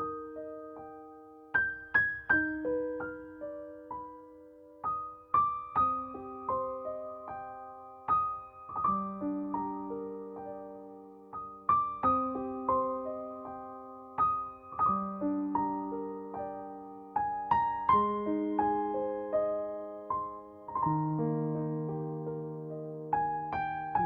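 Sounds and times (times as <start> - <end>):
soft piano arpeggios: 0.0 - 24.0.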